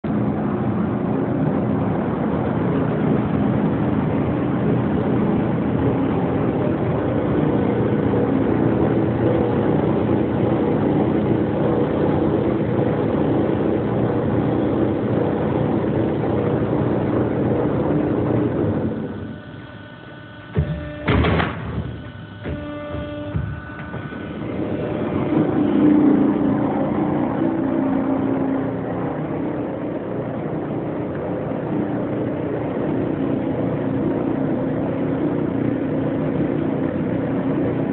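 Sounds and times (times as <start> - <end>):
roll-forming machine droning: 0.0 - 37.9.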